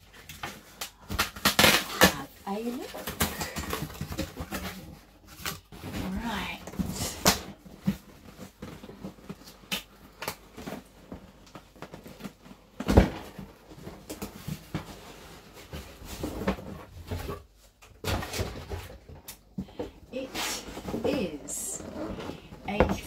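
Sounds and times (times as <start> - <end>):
cardboard packaging rustling: 0.0 - 23.0.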